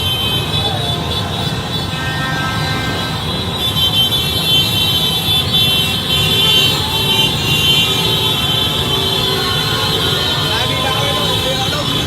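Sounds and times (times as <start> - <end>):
high-pitched horns: 0.0 - 12.0
motorbike engines rumbling: 0.0 - 12.0.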